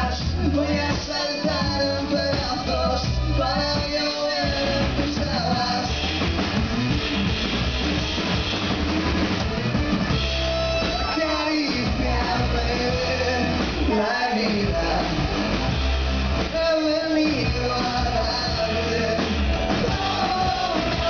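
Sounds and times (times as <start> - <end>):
drum kit: 0.0 - 21.0
electric guitars: 0.0 - 21.0.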